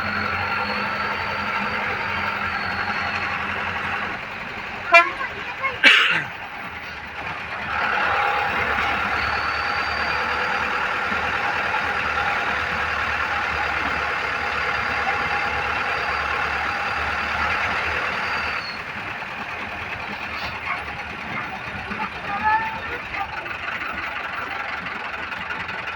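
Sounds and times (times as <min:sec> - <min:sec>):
vehicle running: 0:00.0 - 0:25.9.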